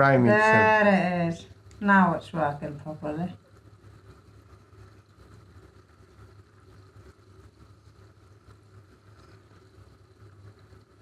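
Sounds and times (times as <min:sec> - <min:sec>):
low pump hum: 0:00.0 - 0:09.0.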